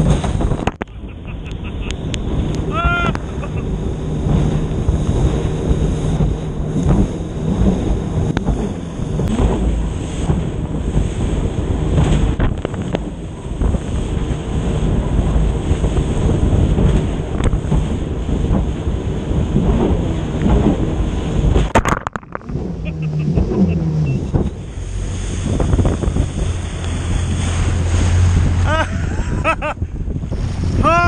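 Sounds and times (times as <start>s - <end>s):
spray slapping against hull: 0.0s - 30.8s
jet ski engine drone: 0.0s - 31.0s
wind buffeting microphone: 0.0s - 31.0s.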